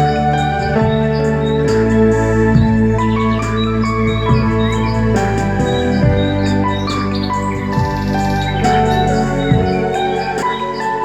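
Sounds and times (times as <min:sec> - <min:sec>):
calm keyboard music: 0:00.0 - 0:11.0.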